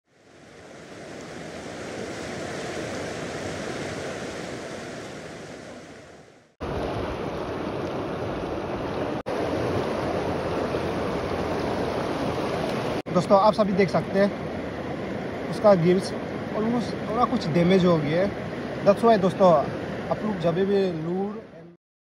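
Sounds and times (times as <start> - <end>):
river water rushing: 0.1 - 21.2.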